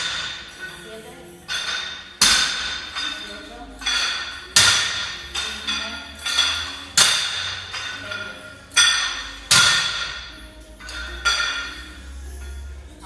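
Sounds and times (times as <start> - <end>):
metal gym weights clanking: 0.0 - 12.8.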